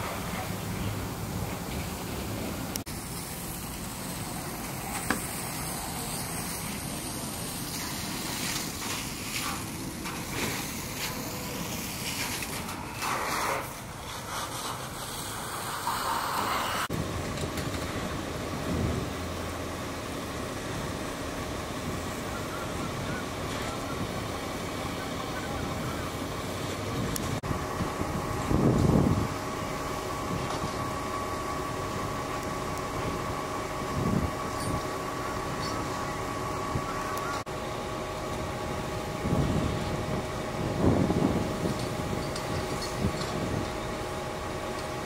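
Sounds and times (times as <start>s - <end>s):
fire engine running: 0.0s - 45.0s
fire hoses spraying water: 0.0s - 45.0s.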